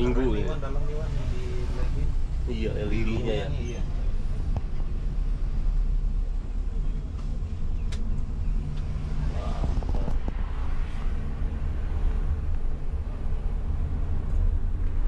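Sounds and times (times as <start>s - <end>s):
coach engine rumble from inside: 0.0s - 15.0s.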